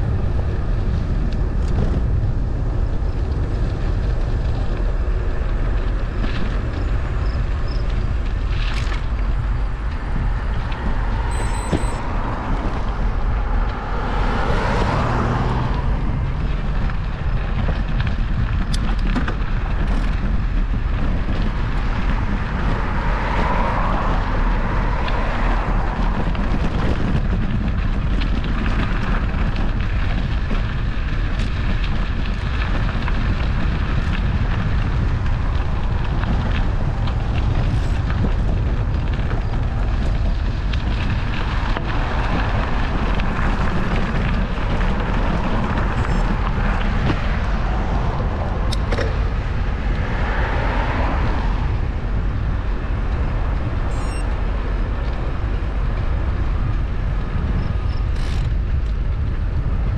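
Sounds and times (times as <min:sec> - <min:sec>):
road noise: 0:00.0 - 0:59.9
wind buffeting microphone: 0:00.0 - 0:59.9.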